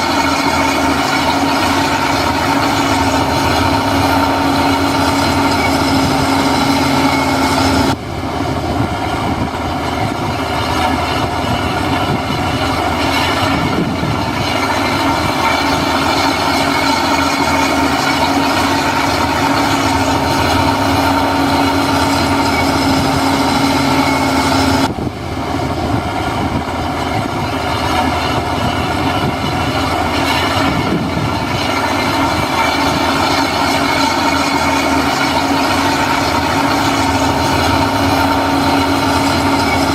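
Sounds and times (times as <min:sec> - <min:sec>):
diesel engine running: 0:00.0 - 0:39.9
machinery whine: 0:00.0 - 0:39.9.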